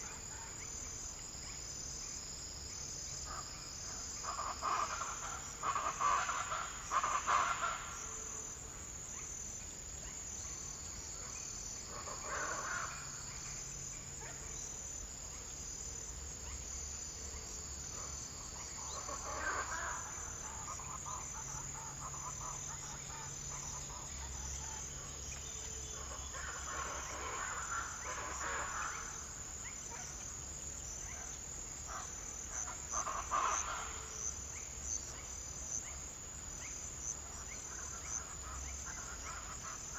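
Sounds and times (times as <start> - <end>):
crickets chirping: 0.0 - 39.9
lower insect call: 0.0 - 39.9.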